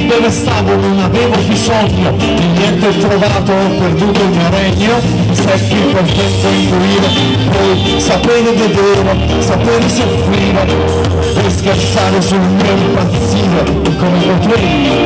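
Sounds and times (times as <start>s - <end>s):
drums beat: 0.0s - 15.0s
electric guitar: 0.0s - 15.0s.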